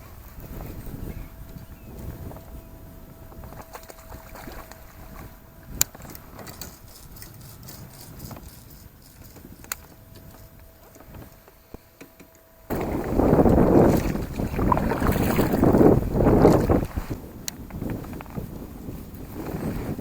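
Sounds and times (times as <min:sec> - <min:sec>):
faint steady hum: 0:00.0 - 0:20.0
rumbling handling noise: 0:03.2 - 0:20.0.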